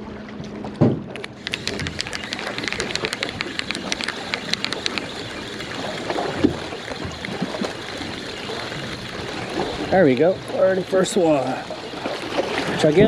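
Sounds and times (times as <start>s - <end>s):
water at shoreline: 0.0s - 13.0s
wind: 0.0s - 13.0s
fishing reel ticking: 1.2s - 13.0s.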